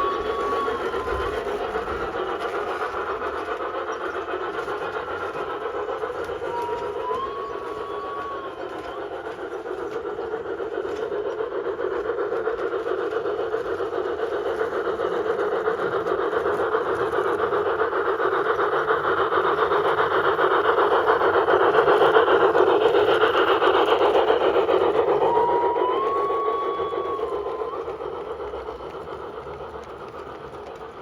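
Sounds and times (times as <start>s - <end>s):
model train motor whirring: 0.0s - 31.0s.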